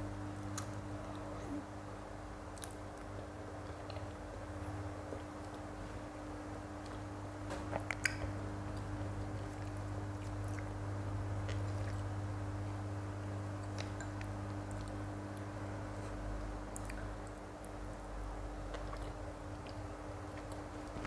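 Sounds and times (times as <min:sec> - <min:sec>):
chewing soft food: 0:02.4 - 0:21.0.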